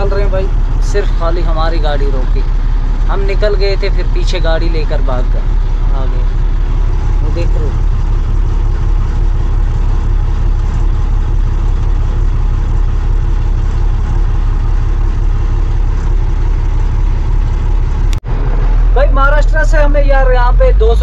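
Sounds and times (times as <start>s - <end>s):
diesel truck engine drone: 0.0s - 21.0s
road noise: 0.0s - 21.0s.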